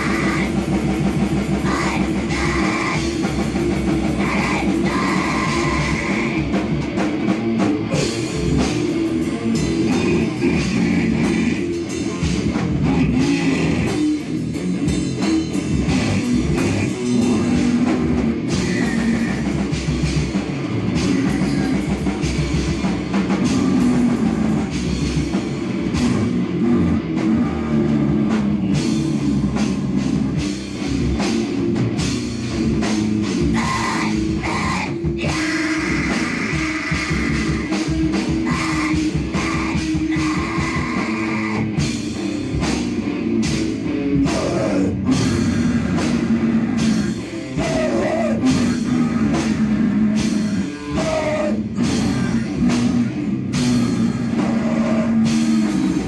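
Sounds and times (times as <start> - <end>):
distorted rock music: 0.0 - 56.0
fast drumming: 0.0 - 56.0.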